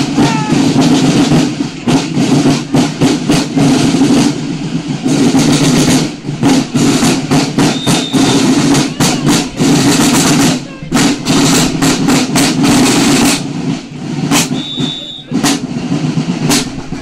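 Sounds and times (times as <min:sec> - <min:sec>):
marching snare drums: 0:00.0 - 0:17.0.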